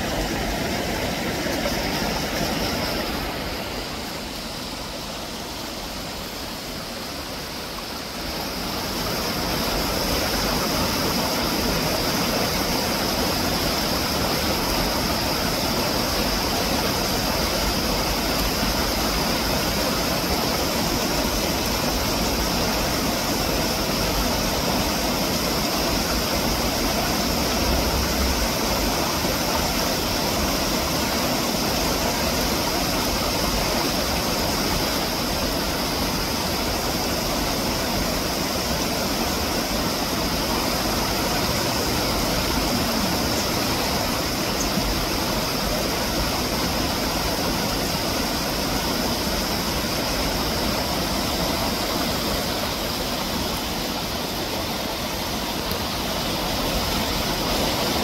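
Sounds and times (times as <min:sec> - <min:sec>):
stream water over rocks: 0:00.0 - 0:58.0.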